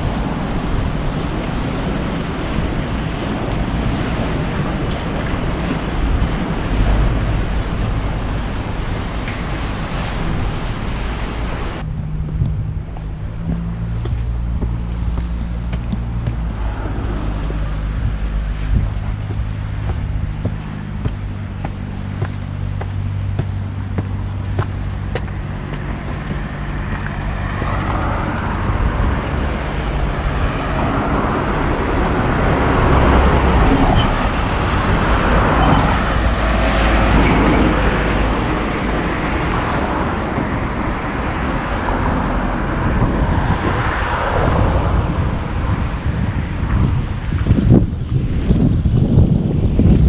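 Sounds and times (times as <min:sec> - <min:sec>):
outdoor background noise: 0:00.0 - 0:50.0
vehicle engine rumble: 0:00.0 - 0:50.0.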